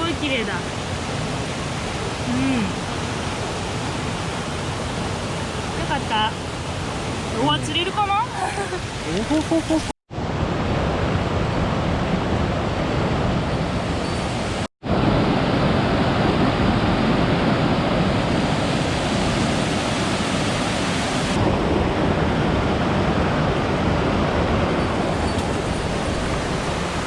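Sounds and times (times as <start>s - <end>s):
mountain stream rushing: 0.0s - 27.0s.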